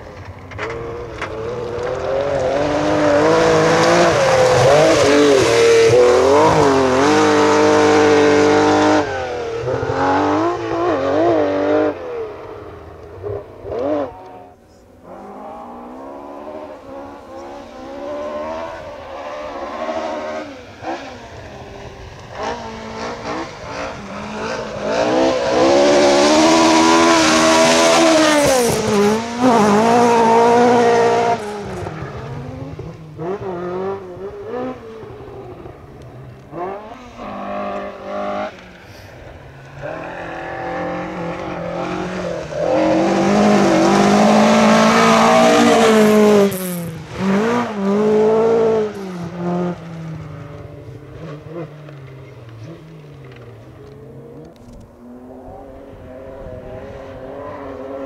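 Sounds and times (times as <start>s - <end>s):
second car engine approaching: 0.0s - 58.0s
rally car engine revving past: 0.6s - 12.6s, 13.2s - 58.0s.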